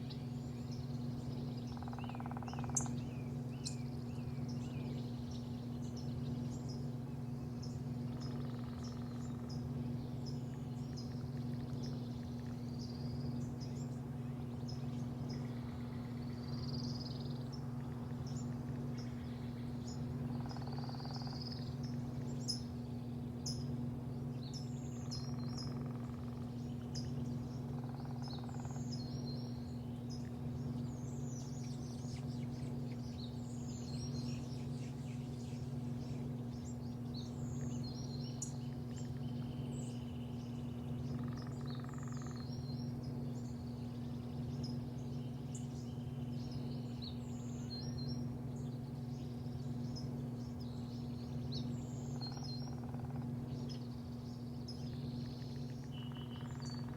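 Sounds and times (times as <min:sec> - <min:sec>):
low machine hum: 0:00.0 - 0:56.9
small birds chirping: 0:00.0 - 0:56.9.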